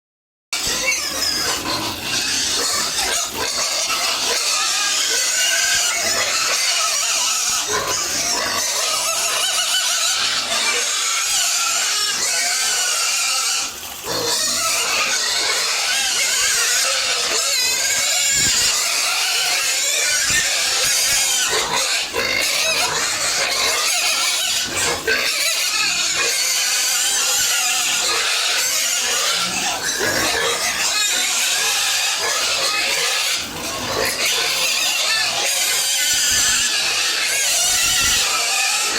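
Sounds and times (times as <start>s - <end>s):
pigs squealing: 0.6s - 38.9s.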